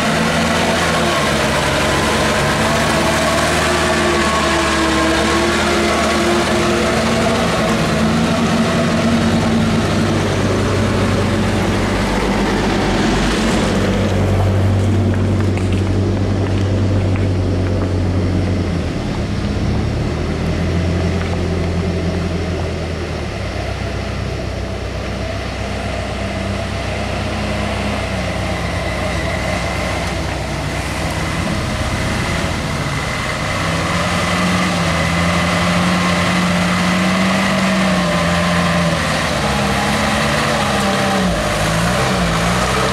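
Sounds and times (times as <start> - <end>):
diesel truck engines under load: 0.0 - 42.9.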